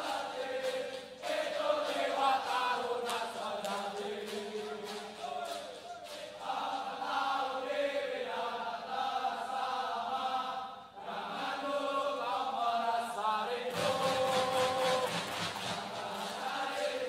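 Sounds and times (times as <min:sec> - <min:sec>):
men singing in unison: 0:00.0 - 0:17.0.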